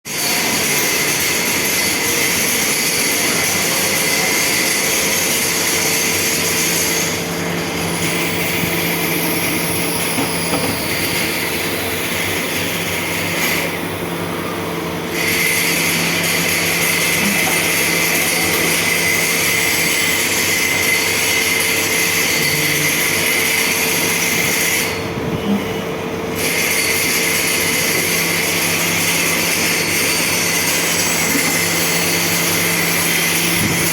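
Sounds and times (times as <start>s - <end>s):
lathe humming: 0.2s - 33.9s.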